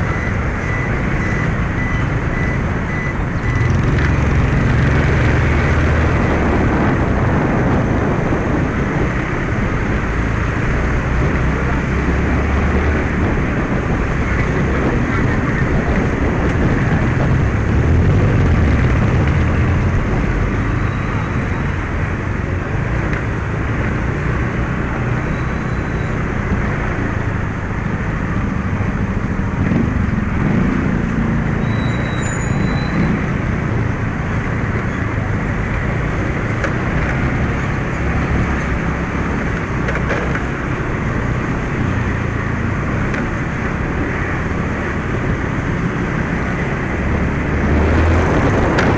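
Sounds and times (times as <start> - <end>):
scooter engine drone: 0.0 - 48.9
wind rush and road noise: 0.0 - 48.9.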